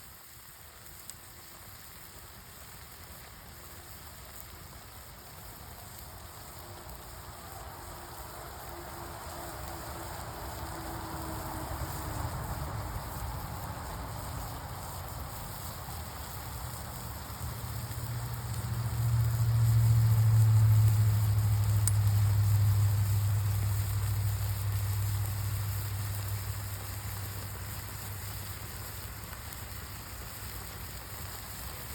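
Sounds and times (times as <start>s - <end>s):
food sizzling over campfire: 0.0s - 31.9s.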